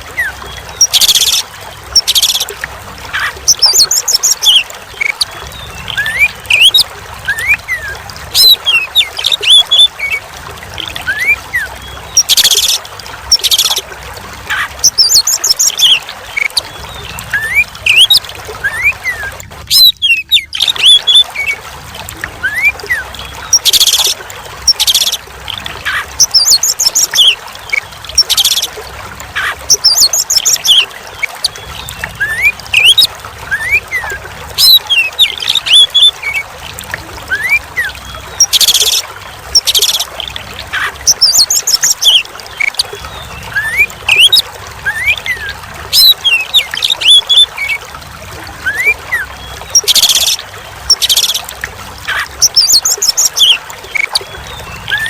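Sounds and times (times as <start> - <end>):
trickling pouring water: 0.0 - 55.0.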